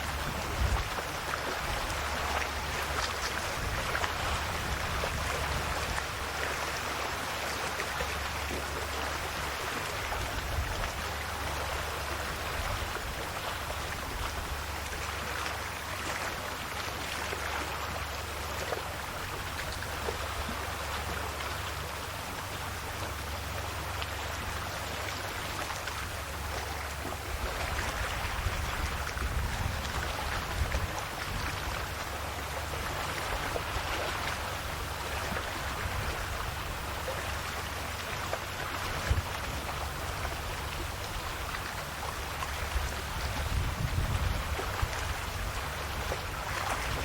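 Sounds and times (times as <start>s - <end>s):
sea waves washing on shore: 0.0s - 47.0s.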